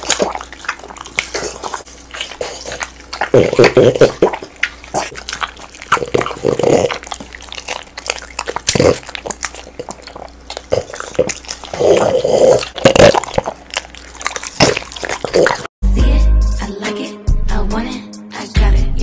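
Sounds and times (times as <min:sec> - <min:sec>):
dogs chewing watermelon: 0:00.0 - 0:15.7.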